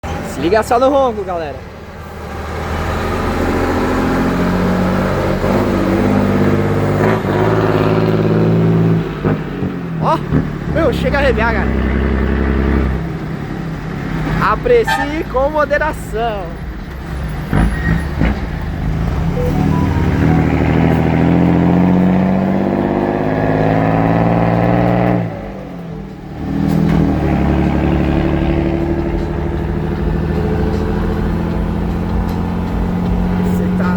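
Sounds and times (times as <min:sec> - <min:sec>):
car engine and exhaust rumbling: 0:00.0 - 0:33.9.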